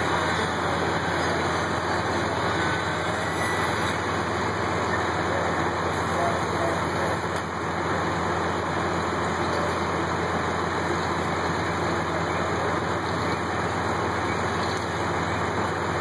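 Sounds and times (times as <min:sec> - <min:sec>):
fire engines running: 0:00.0 - 0:16.0.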